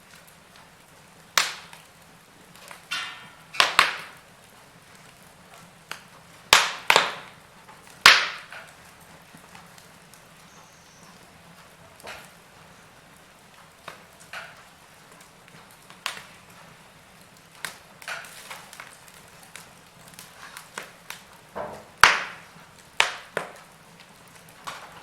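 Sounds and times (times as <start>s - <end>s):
fire pops and snaps: 0.0s - 25.0s
wood fire crackling: 0.0s - 25.0s.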